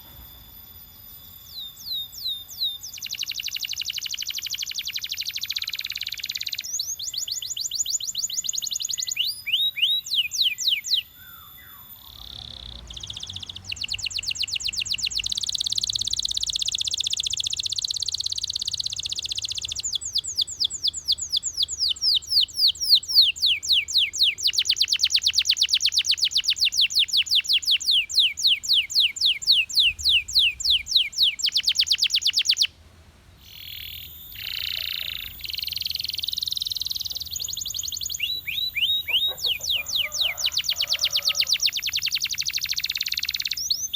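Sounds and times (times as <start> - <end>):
canary singing trills: 0.0 - 32.8, 33.4 - 43.9.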